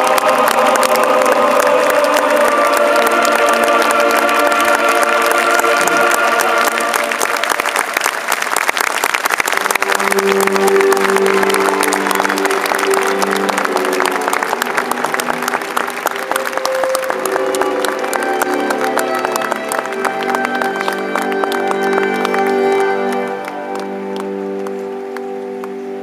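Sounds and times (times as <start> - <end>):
music over loudspeakers: 0.0 - 8.0, 9.7 - 26.0
large crowd applauding: 0.0 - 26.0.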